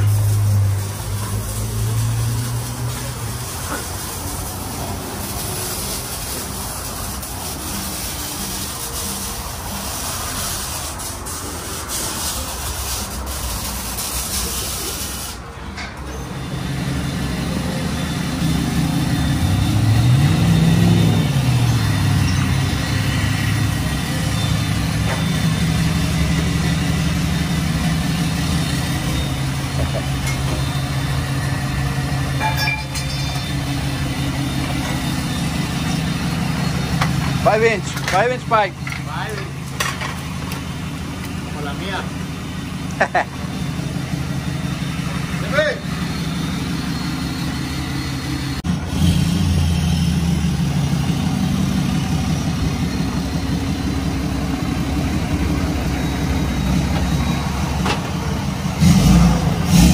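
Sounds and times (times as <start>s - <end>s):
truck engine idling and revving: 0.0s - 59.9s.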